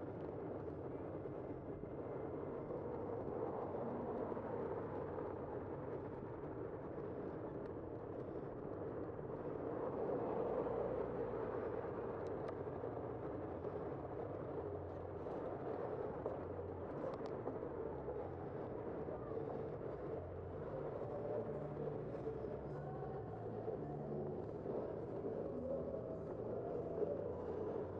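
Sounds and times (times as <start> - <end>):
wind and road noise: 0.1 - 27.9.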